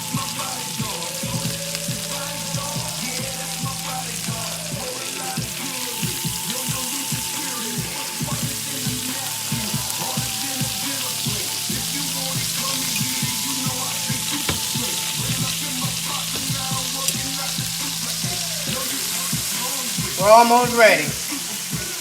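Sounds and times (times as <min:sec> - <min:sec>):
bubbling sauce popping: 0:00.0 - 0:22.0
chicken sizzling in a pan: 0:00.0 - 0:22.0.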